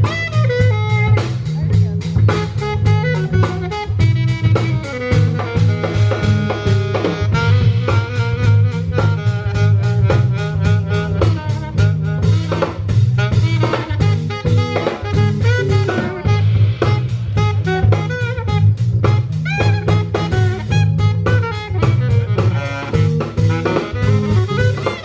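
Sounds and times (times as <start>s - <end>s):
drum kit beat: 0.0s - 25.0s
live jazz band playing: 0.0s - 25.0s
steady bass line: 0.0s - 25.0s.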